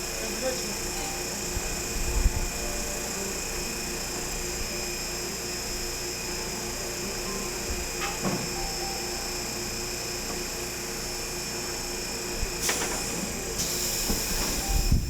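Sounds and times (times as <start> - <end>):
electric streetcar humming: 0.0 - 15.0.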